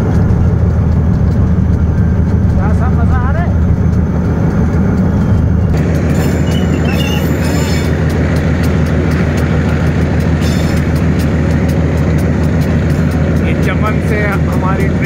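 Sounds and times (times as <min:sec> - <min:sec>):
diesel locomotive engine drone: 0:00.0 - 0:15.0
faint rapid ticking: 0:00.0 - 0:15.0.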